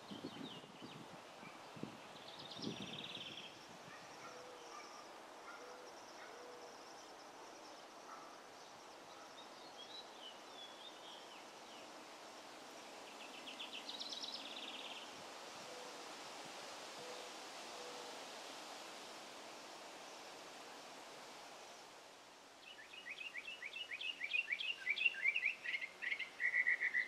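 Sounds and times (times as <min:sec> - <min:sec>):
songbirds calling: 0:00.0 - 0:16.2, 0:20.0 - 0:27.0.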